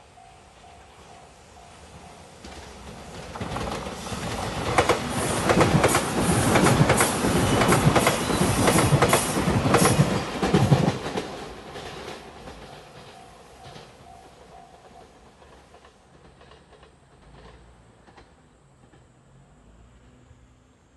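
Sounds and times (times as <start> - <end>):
electric train passing: 0.0 - 20.9
wheels clacking over rail joints: 2.3 - 19.2.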